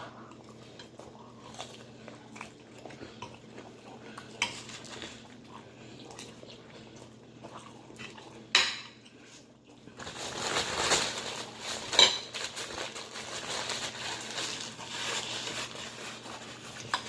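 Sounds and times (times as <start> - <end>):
crunching and chewing: 0.0 - 17.0.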